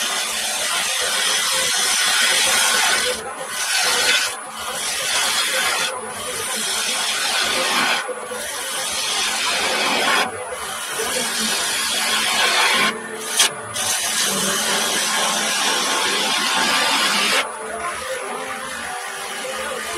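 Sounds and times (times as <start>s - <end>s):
lathe gouge cutting wood hiss: 0.0s - 19.9s.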